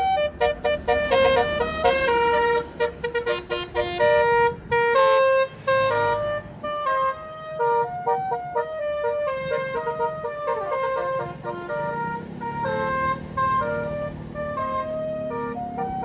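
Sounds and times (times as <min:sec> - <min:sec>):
bus engine running: 0:00.0 - 0:16.0
musical air horn playing a tune: 0:00.0 - 0:16.0.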